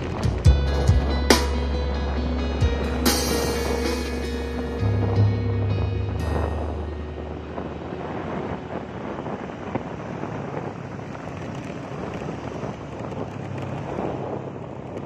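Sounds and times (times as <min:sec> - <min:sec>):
road noise: 0:00.0 - 0:15.0
wind on microphone: 0:00.0 - 0:15.0.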